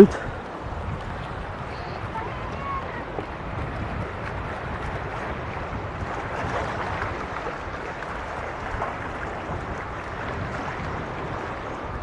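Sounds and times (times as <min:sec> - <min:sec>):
sea washing against rocks: 0:00.0 - 0:12.0
wind rumble on microphone: 0:00.0 - 0:12.0.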